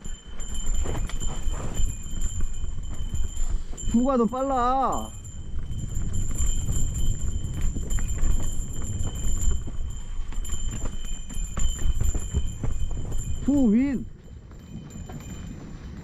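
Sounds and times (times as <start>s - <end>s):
mountain bike clattering on trail: 0.0s - 16.0s
wind on microphone: 0.0s - 16.0s.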